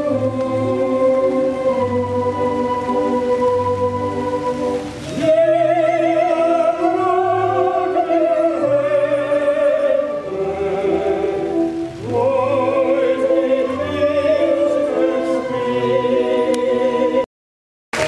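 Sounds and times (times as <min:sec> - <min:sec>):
orchestra playing: 0:00.0 - 0:17.2
operatic singing: 0:00.0 - 0:17.3.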